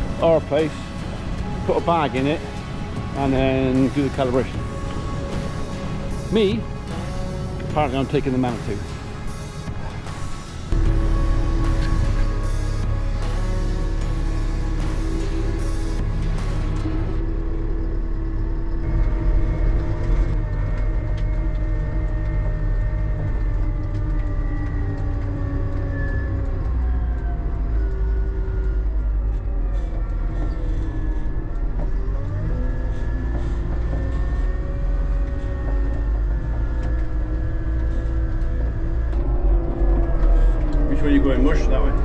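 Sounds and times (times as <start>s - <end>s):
multi-tone whine: 0.0s - 42.0s
tractor engine rumble: 0.0s - 42.0s.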